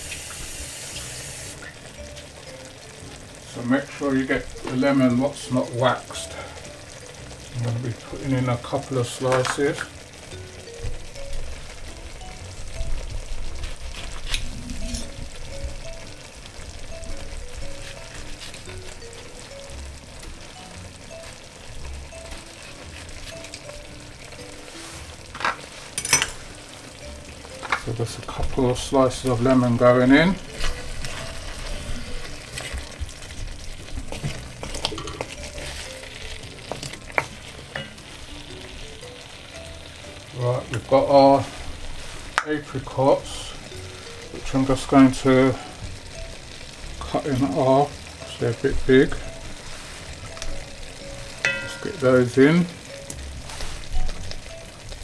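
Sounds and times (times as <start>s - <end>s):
curry sizzling in a pot: 0.0s - 55.0s
light background music: 0.0s - 55.0s.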